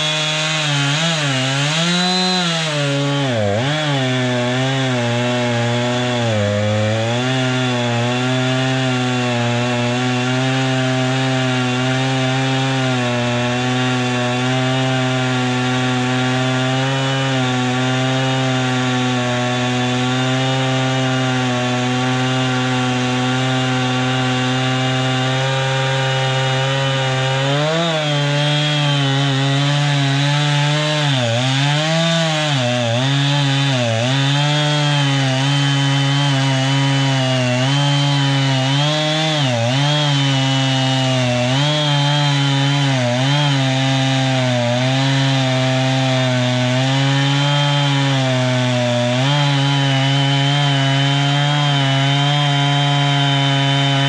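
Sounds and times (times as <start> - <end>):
saw blade cutting log: 0.0 - 54.0.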